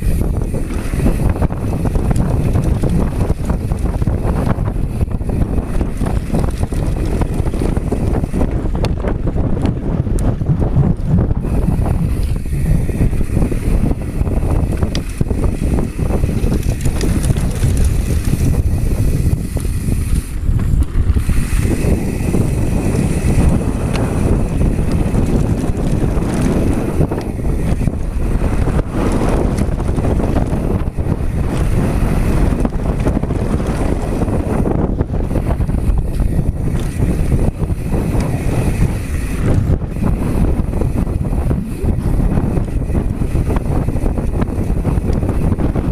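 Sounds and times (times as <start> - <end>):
bike rattling over bumps: 0.0 - 45.9
tyres running over dirt: 0.0 - 45.9
wind buffeting microphone: 0.0 - 45.9.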